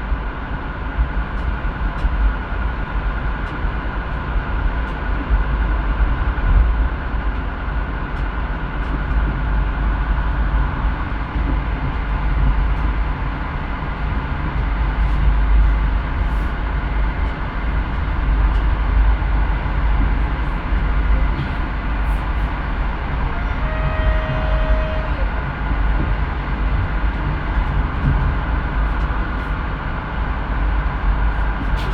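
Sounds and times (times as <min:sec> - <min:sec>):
heavy low rumble: 0:00.0 - 0:31.9
train wheels on rails: 0:01.0 - 0:31.9.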